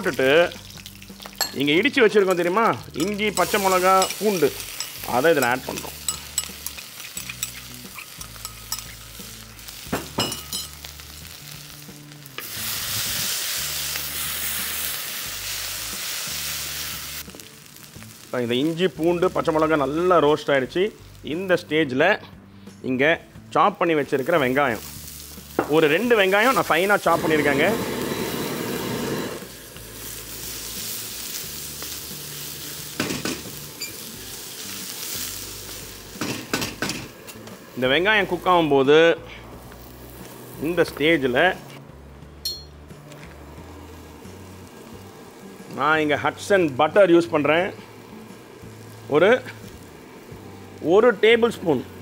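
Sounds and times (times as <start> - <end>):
loud frying sizzle: 0.0 - 21.7, 23.8 - 52.0.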